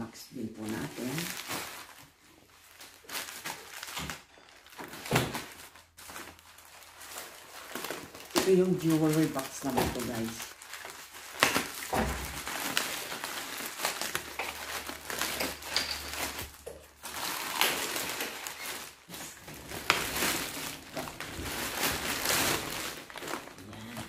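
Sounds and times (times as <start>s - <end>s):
plastic and bubble wrap crinkling: 0.0s - 24.0s.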